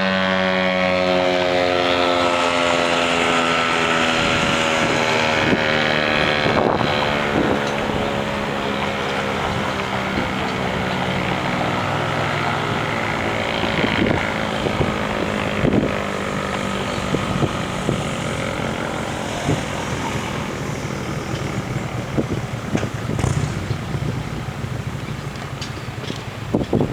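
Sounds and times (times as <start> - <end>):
warning siren steady tone: 0.0 - 26.0.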